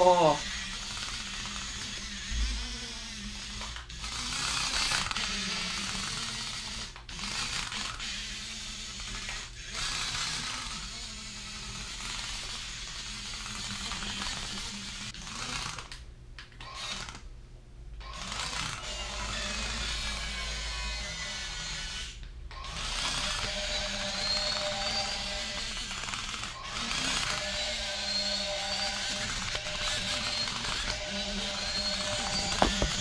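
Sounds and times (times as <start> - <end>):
toy electric motors whirring: 0.0 - 17.3, 18.0 - 33.0.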